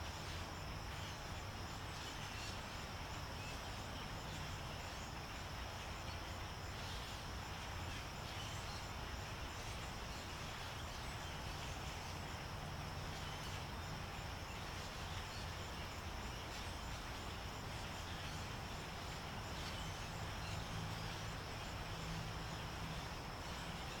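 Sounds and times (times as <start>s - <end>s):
high insect drone: 0.0s - 24.0s
low steady hum: 0.0s - 24.0s.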